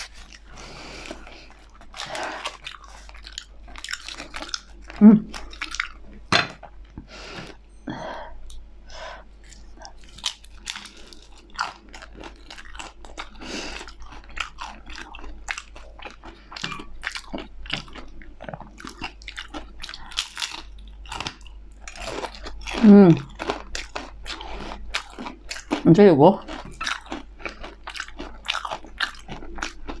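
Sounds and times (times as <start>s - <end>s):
crunchy chewing of fried food: 0.0s - 7.6s, 9.2s - 30.0s.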